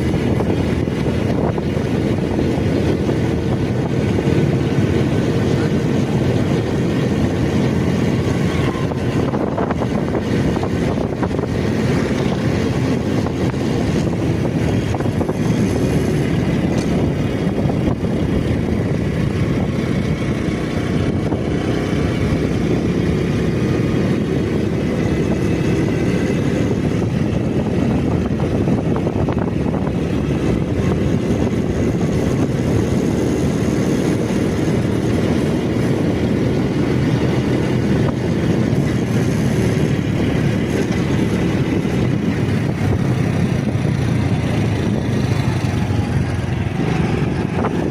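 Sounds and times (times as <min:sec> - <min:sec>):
vehicle rumbling on the move: 0:00.0 - 0:47.9.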